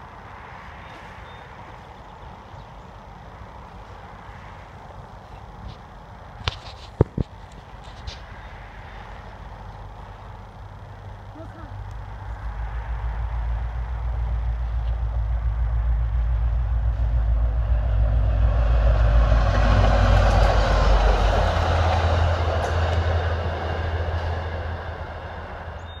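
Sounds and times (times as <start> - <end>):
train passing rumble: 0.0 - 26.0.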